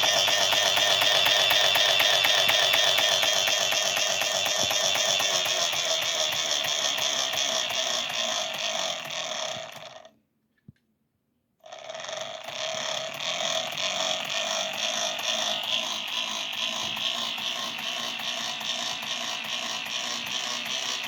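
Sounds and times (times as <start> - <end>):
toy train motor whirring: 0.0 - 10.1, 11.6 - 21.0.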